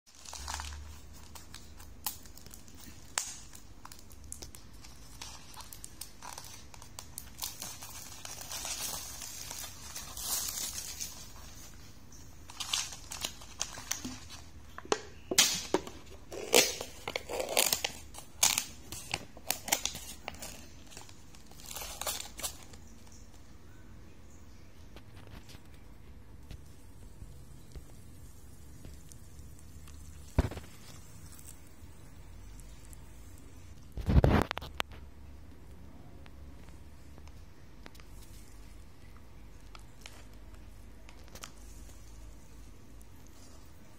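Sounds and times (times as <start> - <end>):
packaging crinkling and tearing: 0.1 - 23.3, 26.5 - 35.0, 36.6 - 43.7.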